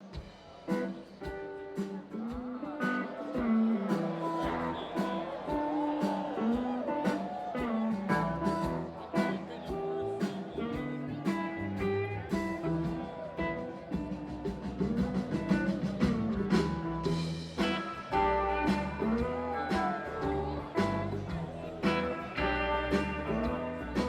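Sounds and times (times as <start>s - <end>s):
bass: 0.0s - 24.0s
drum kit beat: 0.0s - 24.0s.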